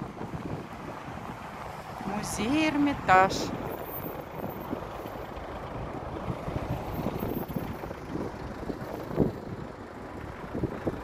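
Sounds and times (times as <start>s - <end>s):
gusty wind buffeting microphone: 0.0s - 11.0s
street traffic rumble: 0.0s - 11.0s.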